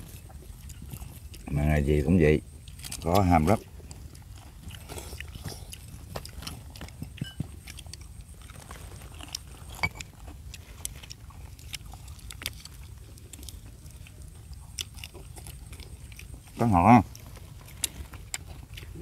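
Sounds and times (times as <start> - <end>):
chewing and food handling clicks: 0.0 - 19.0.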